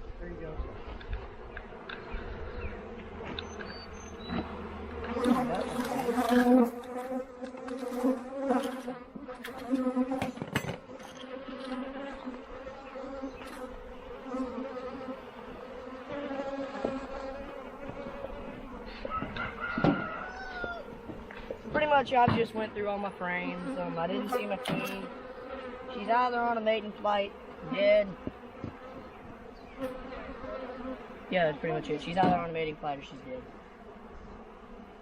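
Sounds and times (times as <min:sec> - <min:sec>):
honey bees buzzing: 0:00.0 - 0:35.0.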